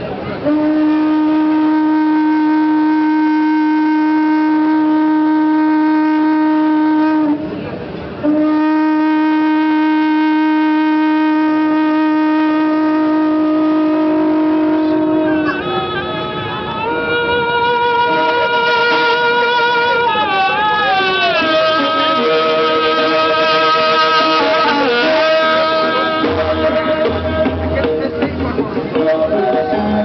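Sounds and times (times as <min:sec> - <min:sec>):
conch shell blasts: 0:00.4 - 0:07.6, 0:08.2 - 0:20.0, 0:21.4 - 0:27.8.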